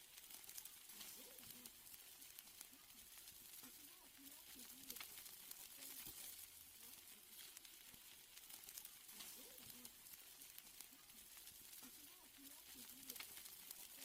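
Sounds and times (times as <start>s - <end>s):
steaks sizzling on a grill: 0.0s - 14.0s
wood fire crackling: 0.0s - 14.0s.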